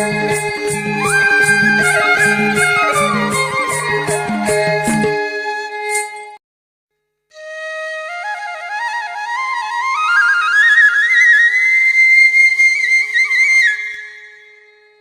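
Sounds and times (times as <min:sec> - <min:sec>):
solo flute melody: 0:00.0 - 0:06.2, 0:07.3 - 0:14.9.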